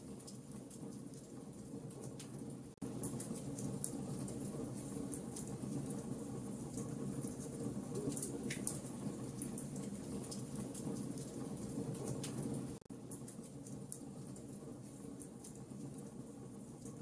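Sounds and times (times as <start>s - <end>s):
low rumble of flames: 0.0s - 17.0s.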